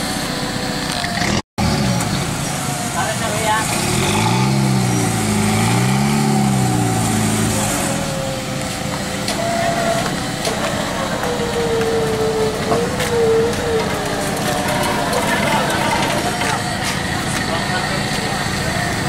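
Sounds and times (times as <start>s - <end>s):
buggy engine revving: 0.0s - 19.0s.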